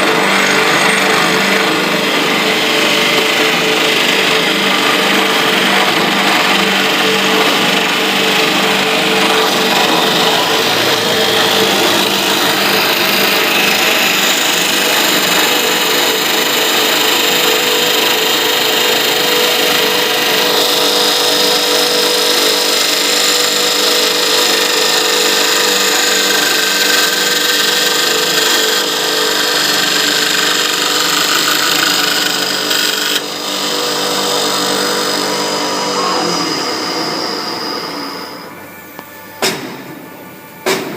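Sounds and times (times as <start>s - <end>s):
wood lathe machine whine: 0.0s - 40.7s
wood cutting noise: 0.0s - 40.9s.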